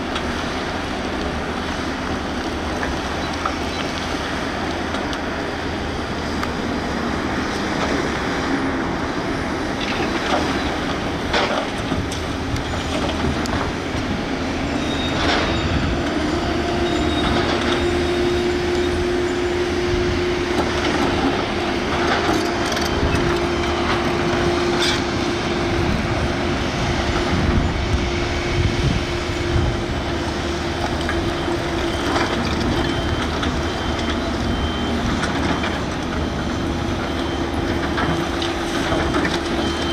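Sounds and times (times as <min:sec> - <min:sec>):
excavator engine and hydraulics: 0:00.0 - 0:39.9.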